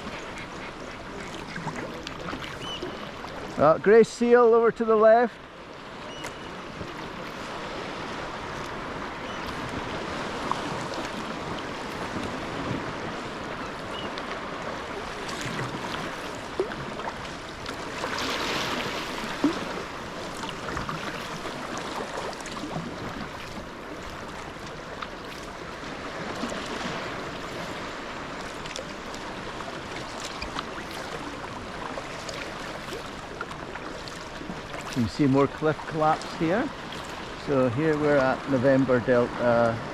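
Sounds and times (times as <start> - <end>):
paddle splashing: 0.0 - 39.9
water washing along hull: 0.0 - 39.9.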